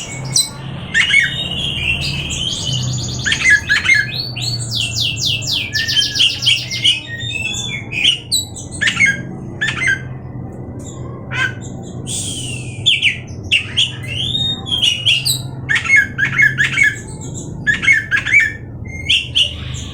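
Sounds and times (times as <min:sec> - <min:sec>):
bird singing chirps and whistles: 0:00.0 - 0:10.1, 0:10.8 - 0:19.9.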